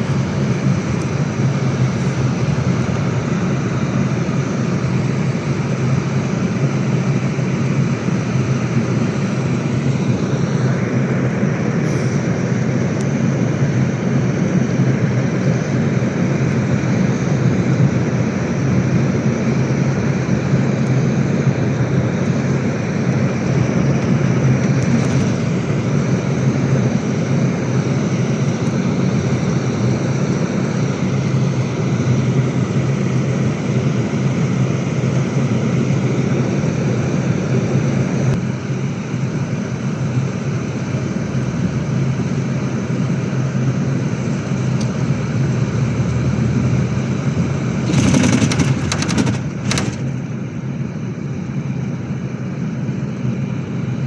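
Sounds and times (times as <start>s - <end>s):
coach engine and road drone: 0.0s - 54.0s.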